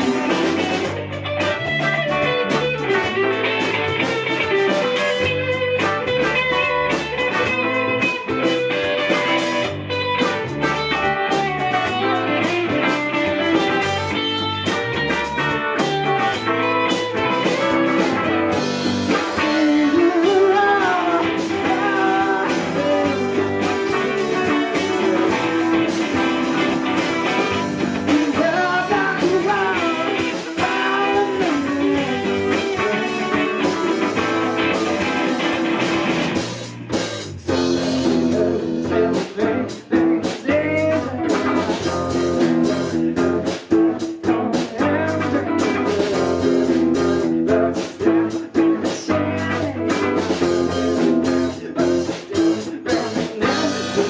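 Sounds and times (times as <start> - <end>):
live band playing guitar song: 0.0 - 54.0.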